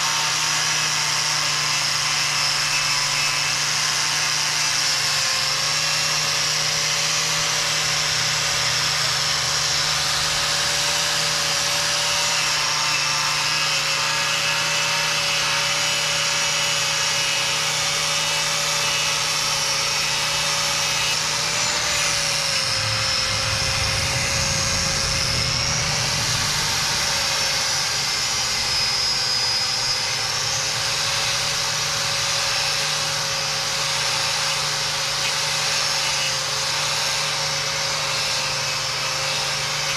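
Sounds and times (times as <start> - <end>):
angle grinder wire brush on metal: 0.0 - 39.9.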